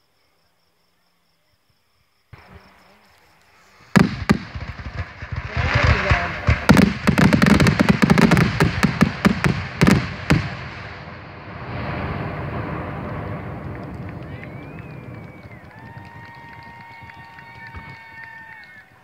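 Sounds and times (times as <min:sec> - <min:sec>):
fireworks bangs and crackling: 0:02.4 - 0:19.0.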